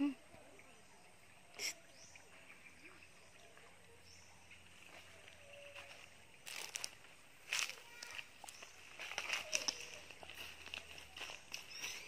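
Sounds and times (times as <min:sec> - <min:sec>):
faint bird chirps: 0:00.0 - 0:06.2, 0:07.8 - 0:12.0.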